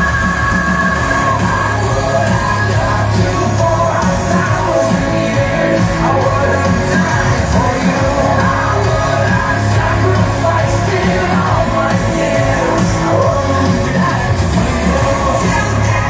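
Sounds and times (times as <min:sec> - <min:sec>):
amplified music with singing: 0:00.0 - 0:16.0.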